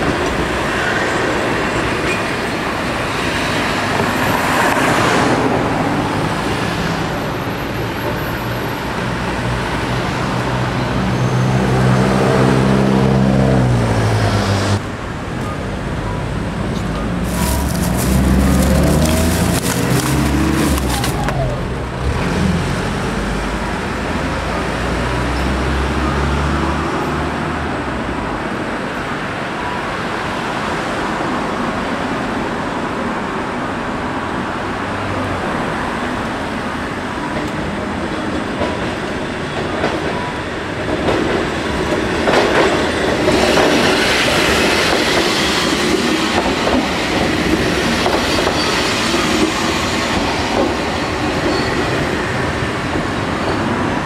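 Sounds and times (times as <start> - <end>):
electric railcar passing: 0.0 - 54.0.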